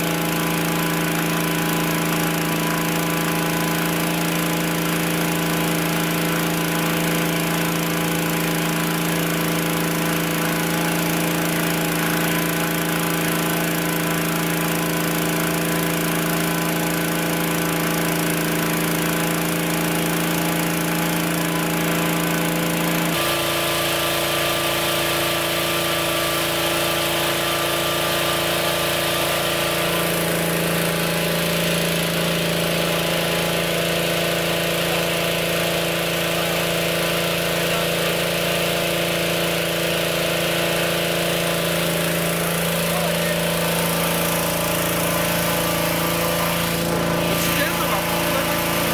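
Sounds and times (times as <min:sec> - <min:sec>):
petrol engine fan running: 0:00.0 - 0:48.9.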